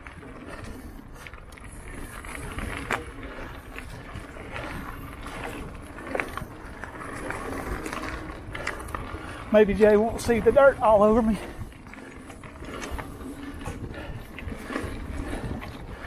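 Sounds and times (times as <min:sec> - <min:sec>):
bike rattling: 0:00.0 - 0:16.0
bike tyres on loose dirt: 0:00.0 - 0:16.0.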